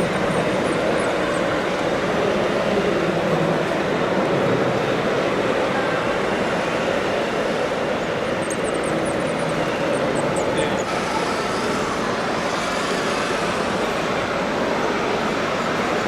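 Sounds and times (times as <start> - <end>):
model trucks running: 0.0 - 16.0.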